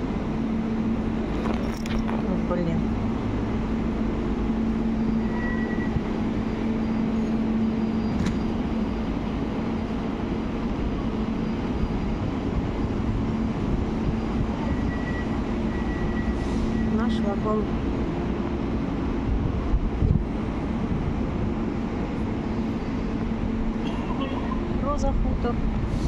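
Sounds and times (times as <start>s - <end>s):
electric train humming and hissing: 0.0s - 1.5s, 2.1s - 26.0s.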